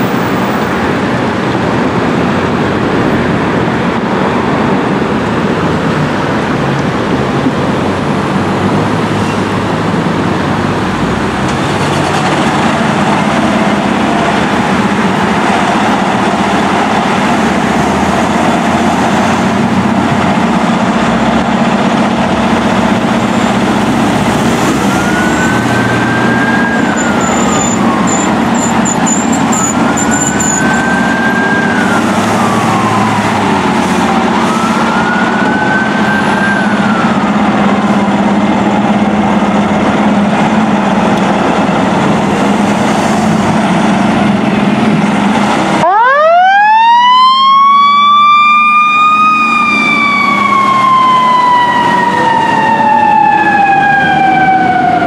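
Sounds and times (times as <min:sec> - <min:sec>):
fire truck siren wailing: 0:00.0 - 0:55.0
passing street traffic: 0:00.0 - 0:55.0.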